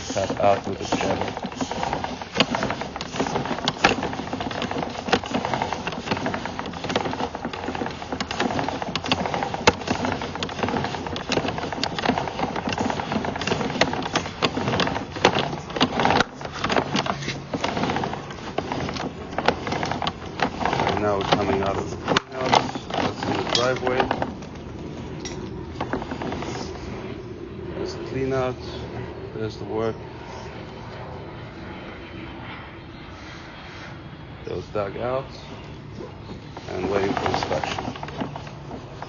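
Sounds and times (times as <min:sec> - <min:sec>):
cable rattling onto reel: 0:00.0 - 0:27.0, 0:34.7 - 0:39.0.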